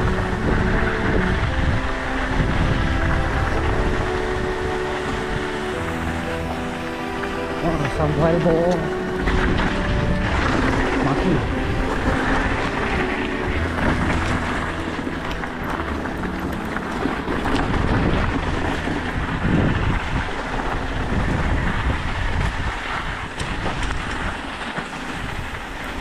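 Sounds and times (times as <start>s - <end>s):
bike tyre rumble: 0.0s - 26.0s
wind noise on microphone: 0.0s - 26.0s
bike rattling: 5.0s - 26.0s.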